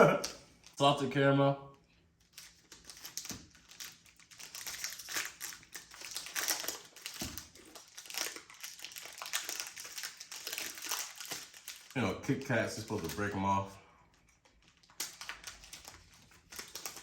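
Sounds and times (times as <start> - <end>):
plastic wrapper crinkling: 2.1 - 13.5, 14.2 - 17.0.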